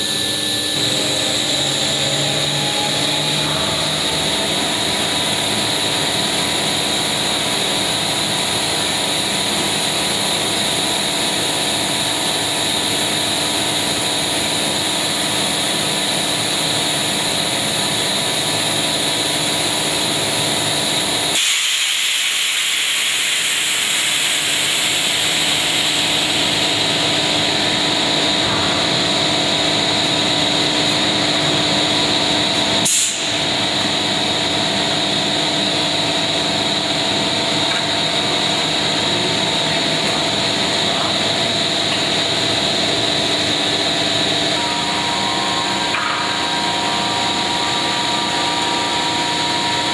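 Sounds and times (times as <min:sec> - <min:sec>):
machine mechanical hum: 0:00.0 - 0:49.9.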